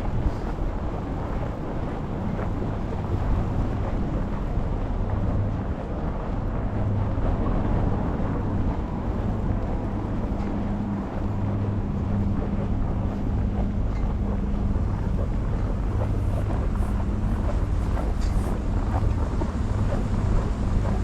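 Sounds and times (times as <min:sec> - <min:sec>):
low hum: 0:00.0 - 0:21.0
street traffic rumble: 0:00.0 - 0:21.0
wind buffeting microphone: 0:00.0 - 0:21.0.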